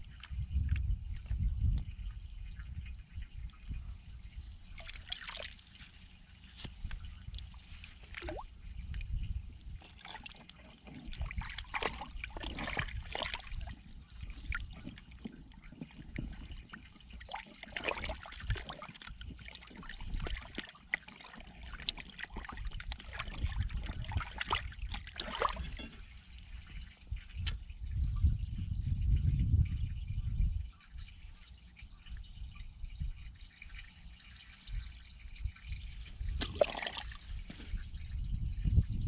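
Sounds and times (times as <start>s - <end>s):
small water splashes: 0.0s - 4.0s, 4.6s - 28.2s, 29.9s - 38.4s
water trickling and sloshing: 0.0s - 39.0s.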